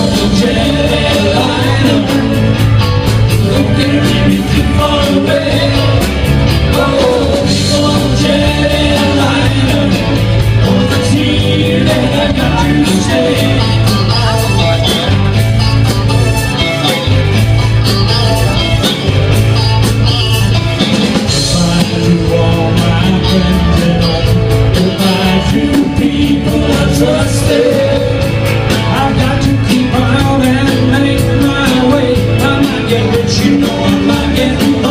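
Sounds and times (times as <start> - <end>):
person singing: 0.0 - 17.0, 21.2 - 34.9
live band playing loud music: 0.0 - 34.9
steady drum beat: 0.0 - 34.9.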